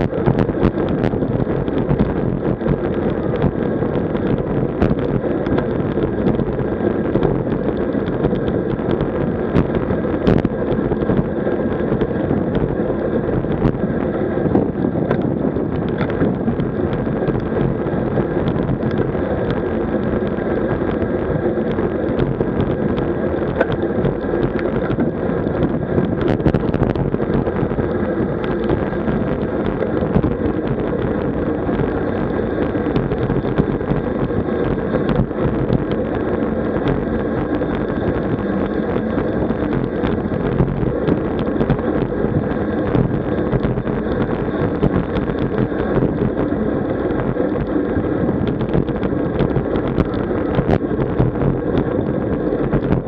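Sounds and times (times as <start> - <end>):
bicycle road and drivetrain noise: 0.0 - 53.0
wind rush on microphone: 0.0 - 53.0.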